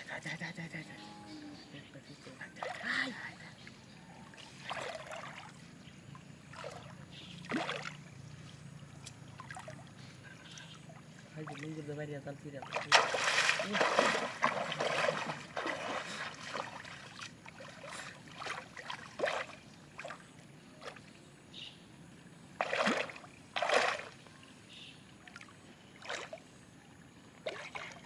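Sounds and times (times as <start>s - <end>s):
water splashing and sloshing: 2.2s - 28.0s.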